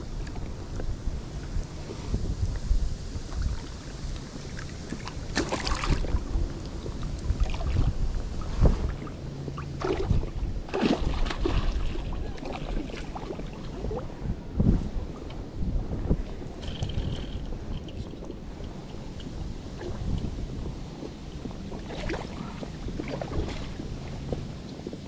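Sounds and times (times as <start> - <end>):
water lapping against float tube: 0.0 - 25.0
wind buffeting microphone: 0.0 - 25.0
water splashes: 1.4 - 15.2, 16.1 - 25.0.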